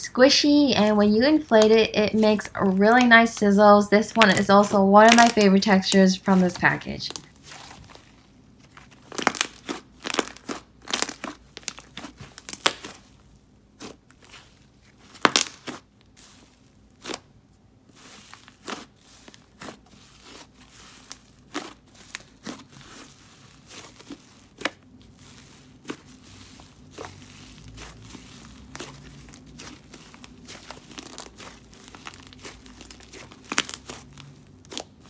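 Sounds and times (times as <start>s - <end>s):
slime crackling and popping: 1.2s - 8.0s, 8.6s - 35.0s.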